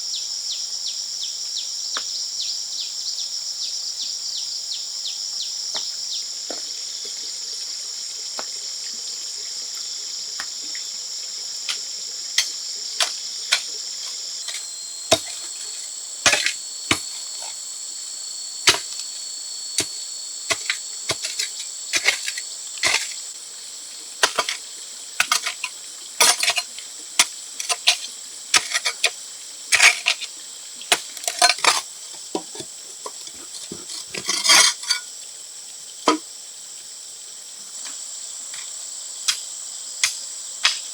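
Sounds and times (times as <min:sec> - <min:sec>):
insect chorus: 0:00.0 - 0:40.9.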